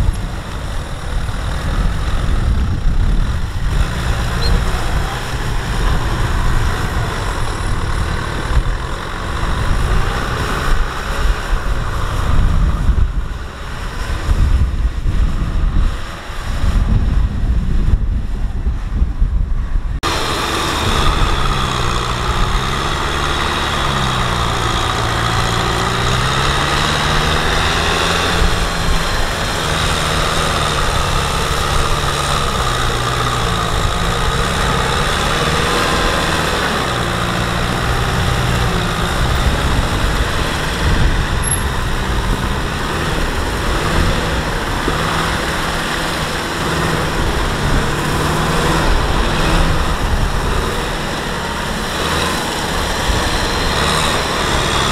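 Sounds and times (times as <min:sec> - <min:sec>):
diesel tractor engine under load: 0:00.0 - 0:54.9.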